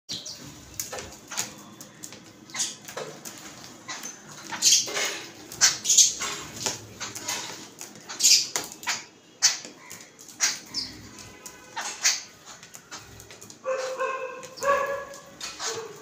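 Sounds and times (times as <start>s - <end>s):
birds chattering: 0.1s - 16.0s.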